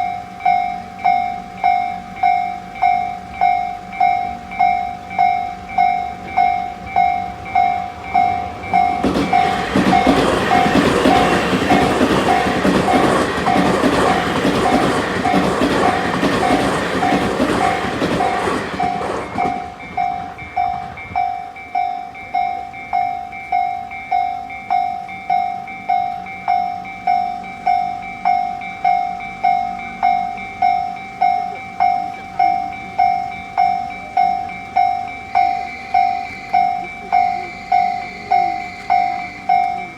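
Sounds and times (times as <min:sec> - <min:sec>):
level-crossing bell ringing: 0:00.0 - 0:39.9
train rumble and wheel clatter: 0:00.0 - 0:39.9.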